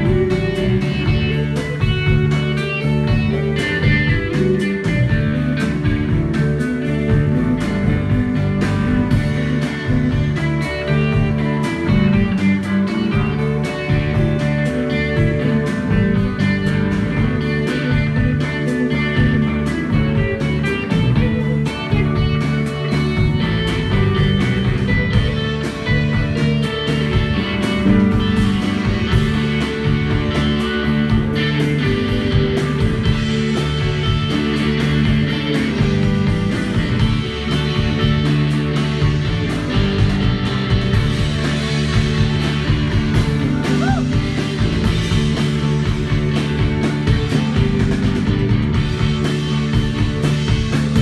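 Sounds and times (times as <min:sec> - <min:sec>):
bass: 0:00.0 - 0:51.0
drum kit: 0:00.0 - 0:51.0
electric guitars: 0:00.0 - 0:51.0
live rock band playing: 0:00.0 - 0:51.0.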